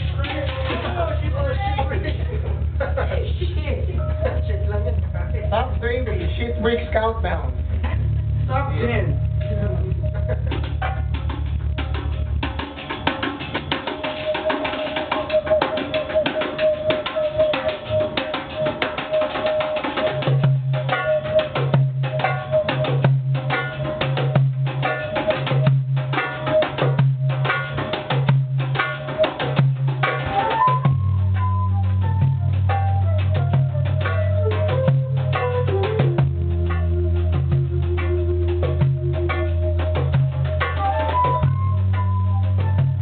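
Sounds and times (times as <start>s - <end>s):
deep bass line: 0.0s - 13.7s, 20.2s - 43.0s
fast hand-drum rhythm: 0.0s - 43.0s.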